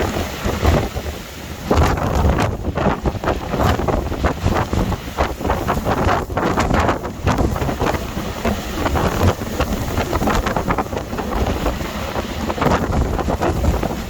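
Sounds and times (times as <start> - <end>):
wind gusting against microphone: 0.0 - 14.0.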